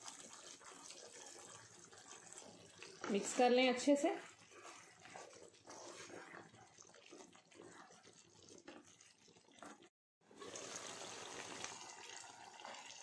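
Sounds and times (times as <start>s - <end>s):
gravy bubbling and sizzling: 0.0s - 13.0s
spatula scraping in gravy: 0.0s - 13.0s.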